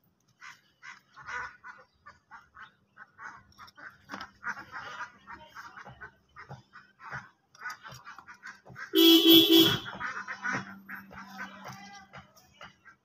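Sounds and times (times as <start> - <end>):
birds calling: 0.2 - 13.0.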